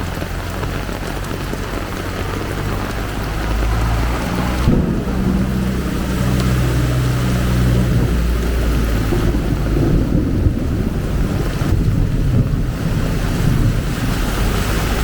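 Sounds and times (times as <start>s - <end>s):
heavy rain falling: 0.0s - 15.0s
vehicle engine running: 0.0s - 15.0s.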